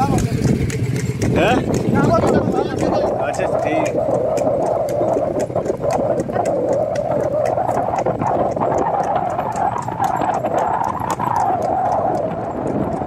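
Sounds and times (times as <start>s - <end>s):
cart clattering: 0.0s - 13.0s
hooves clopping on pavement: 0.0s - 13.0s.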